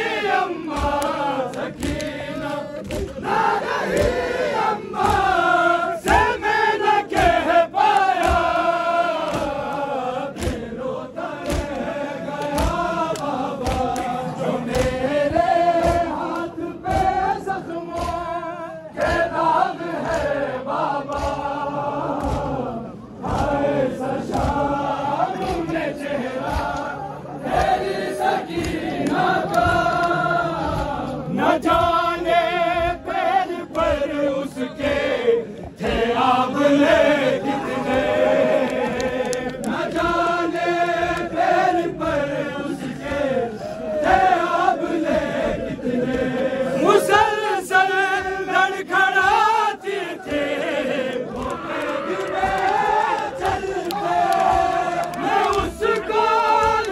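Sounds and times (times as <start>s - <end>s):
men chanting a lament: 0.0s - 56.9s.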